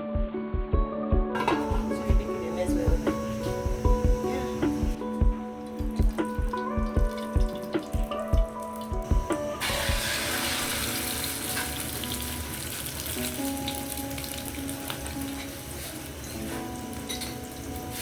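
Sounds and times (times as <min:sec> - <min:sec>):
background music: 0:00.0 - 0:18.0
tap water running into sink: 0:01.4 - 0:18.0.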